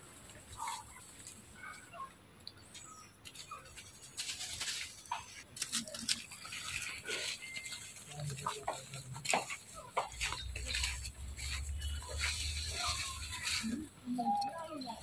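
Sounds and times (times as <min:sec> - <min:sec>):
rustling in dry leaves: 0:00.0 - 0:02.0, 0:02.7 - 0:15.0.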